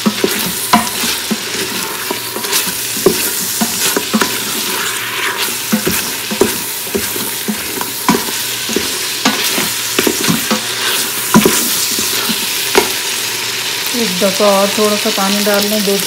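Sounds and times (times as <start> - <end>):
wooden spoon scraping pot: 0.0 - 13.1
meat sizzling in oil: 0.0 - 16.0.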